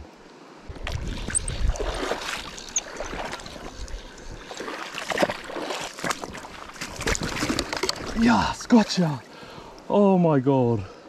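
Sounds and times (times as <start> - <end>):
water splashing: 0.7 - 9.6.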